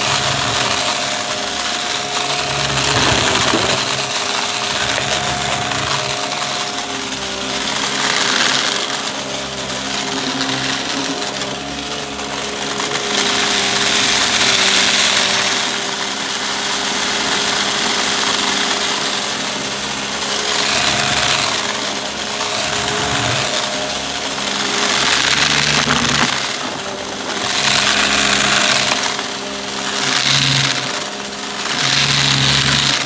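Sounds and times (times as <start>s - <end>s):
vacuum cleaner on carpet: 0.0s - 33.0s.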